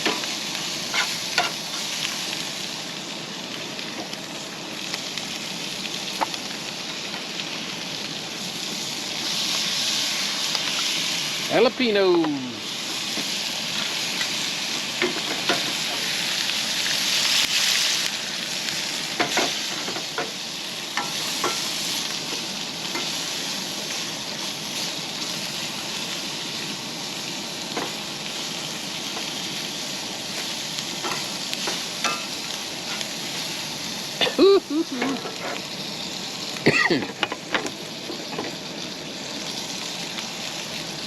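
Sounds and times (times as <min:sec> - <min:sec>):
peppers sizzling in a skillet: 0:00.0 - 0:41.0.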